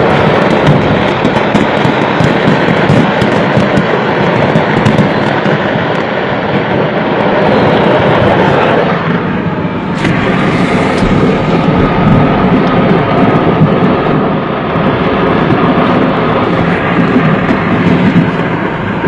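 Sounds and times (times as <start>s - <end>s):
fireworks barrage: 0.0s - 19.0s
sharp crackles: 0.0s - 19.0s.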